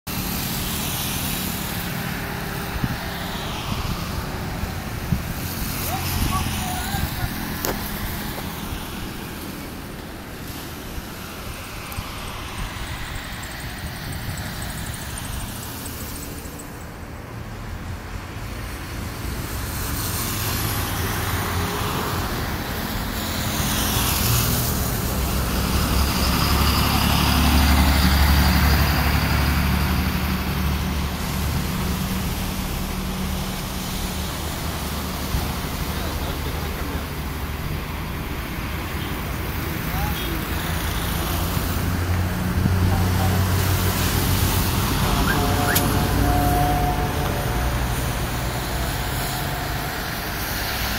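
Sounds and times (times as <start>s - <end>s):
car tyres and engine rumbling: 0.1s - 50.9s
passing traffic: 0.1s - 50.9s.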